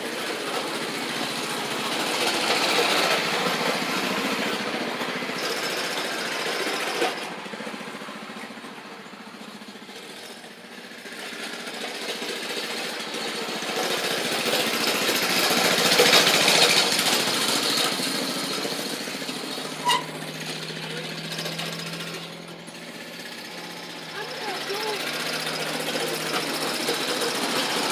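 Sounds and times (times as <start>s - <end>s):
mini bike engine running: 0.0s - 27.9s.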